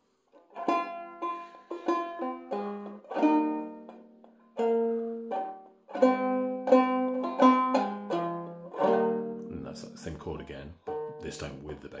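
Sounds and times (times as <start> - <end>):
banjo picking slow melody: 0.0 - 12.0.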